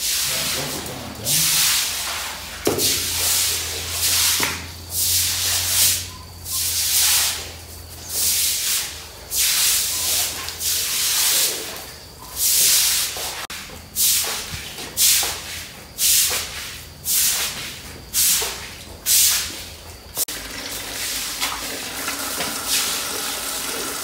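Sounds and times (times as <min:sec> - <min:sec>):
brooms scrubbing wet concrete: 0:00.0 - 0:24.0.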